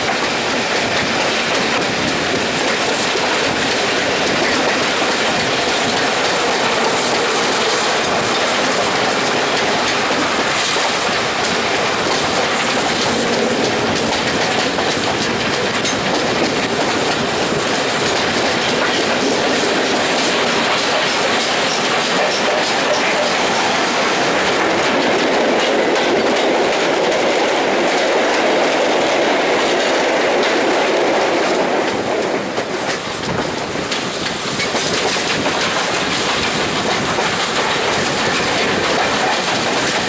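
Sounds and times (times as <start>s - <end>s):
train wheels rushing on rails: 0.0s - 40.0s.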